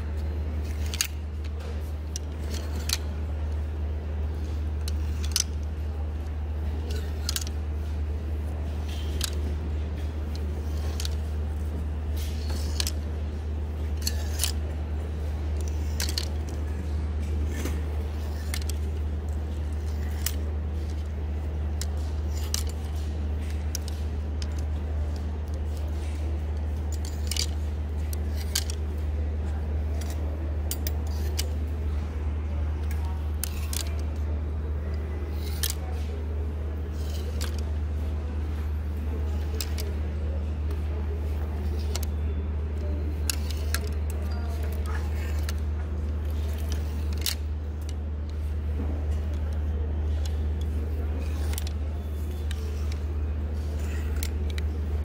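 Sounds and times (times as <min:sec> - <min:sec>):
plastic hangers clacking together: 0:00.0 - 0:32.1, 0:32.7 - 0:55.0.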